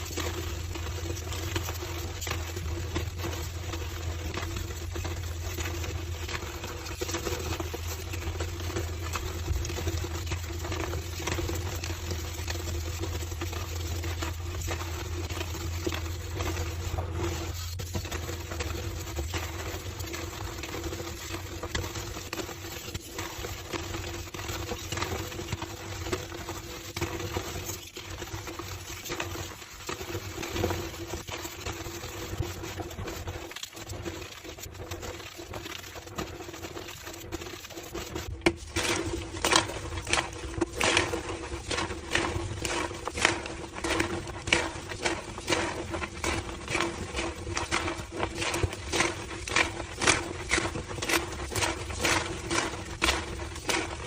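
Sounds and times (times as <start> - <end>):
chalk crunching: 0.0 - 54.0.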